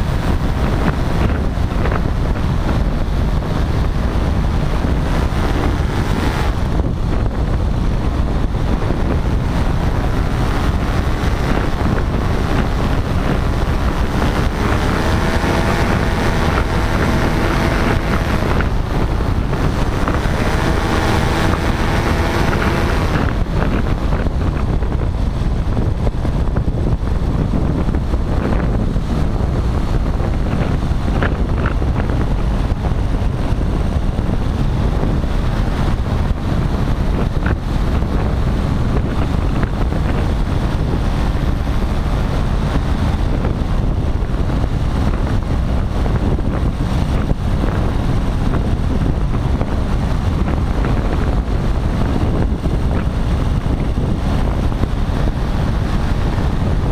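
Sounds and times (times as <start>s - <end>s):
engine and propeller droning: 0.0s - 56.9s
wind buffeting microphone: 0.0s - 56.9s.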